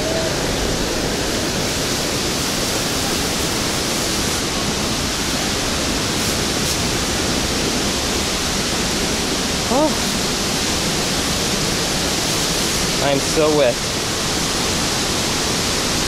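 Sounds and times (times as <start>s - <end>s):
rush of heavy falling water: 0.0s - 16.0s.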